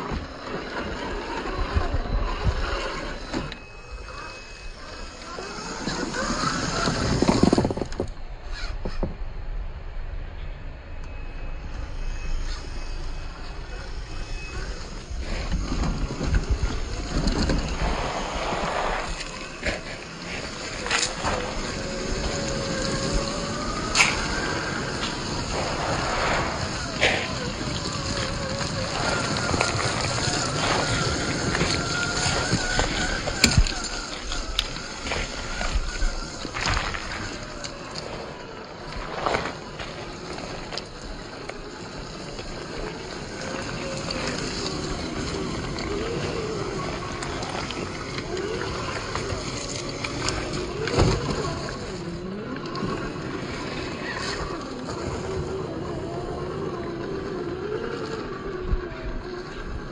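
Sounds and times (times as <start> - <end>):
rocks crunching under tyres: 0.0 - 9.2, 11.6 - 59.9
wind buffeting microphone: 0.0 - 59.9
toy car electric motor whirring: 0.1 - 9.0, 11.6 - 59.9.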